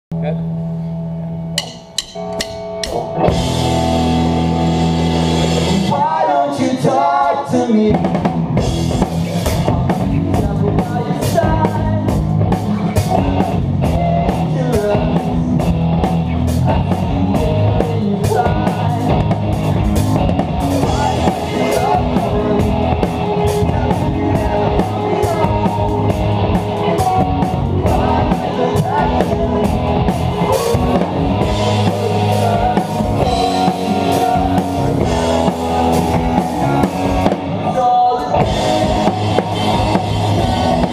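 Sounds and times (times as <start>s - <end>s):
rock band playing live: 0.4s - 40.9s
drum kit: 1.5s - 40.9s.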